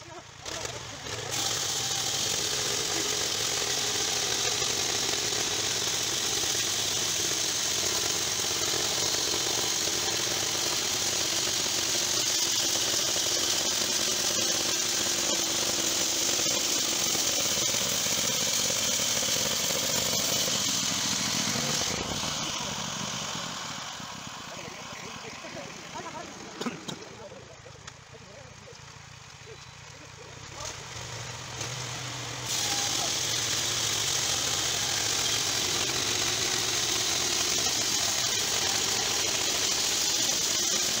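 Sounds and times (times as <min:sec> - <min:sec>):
band saw cutting log: 0:00.0 - 0:27.4, 0:30.5 - 0:41.0
small petrol engine drone: 0:00.0 - 0:41.0.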